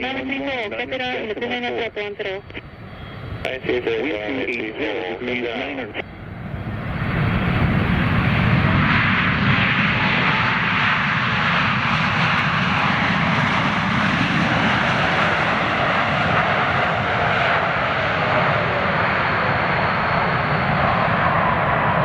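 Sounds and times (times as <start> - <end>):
airliner engines at takeoff power: 0.0 - 22.0.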